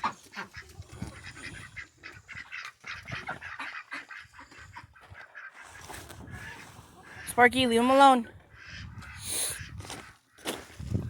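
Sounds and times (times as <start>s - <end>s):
ducks quacking: 0.0s - 10.6s.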